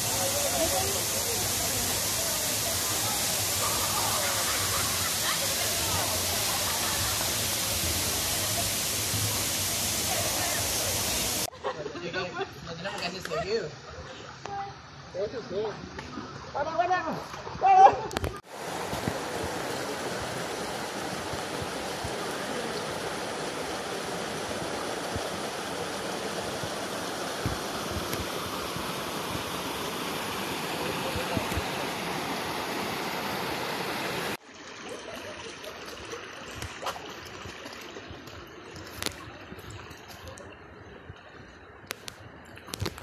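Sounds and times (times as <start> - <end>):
mountain stream rushing: 0.0 - 11.5, 15.8 - 43.0.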